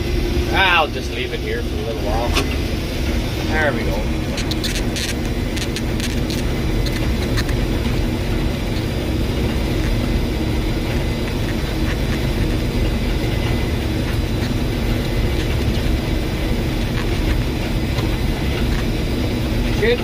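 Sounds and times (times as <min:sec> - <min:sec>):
combine engine drone: 0:00.0 - 0:20.0
threshing machinery humming: 0:00.0 - 0:20.0.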